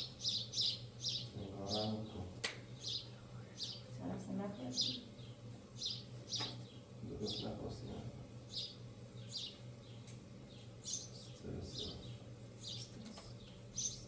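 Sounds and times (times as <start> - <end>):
small bird chirping: 0.0 - 1.9, 2.8 - 3.9, 4.7 - 7.6, 8.5 - 14.0.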